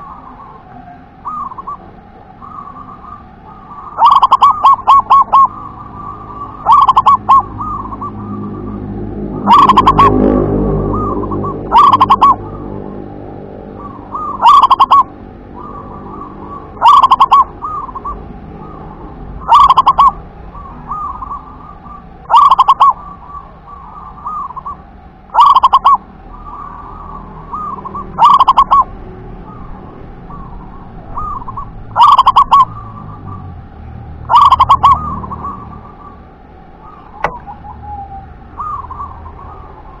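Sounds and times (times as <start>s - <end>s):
soft dove cooing: 0.0s - 8.8s, 9.4s - 12.7s, 13.8s - 24.8s, 25.4s - 33.6s, 34.3s - 36.2s, 36.8s - 40.0s
dove cooing song: 0.0s - 40.0s.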